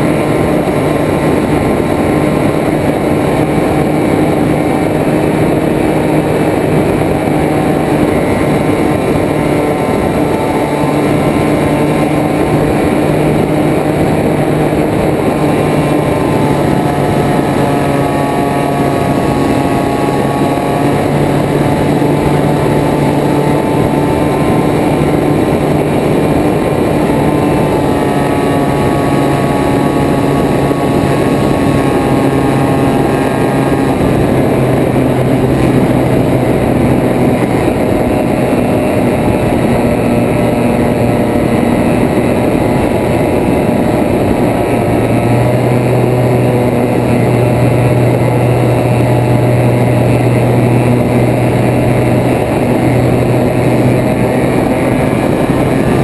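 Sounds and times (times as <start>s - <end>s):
propeller plane engine: 0.0s - 56.0s
wind rush: 0.0s - 56.0s.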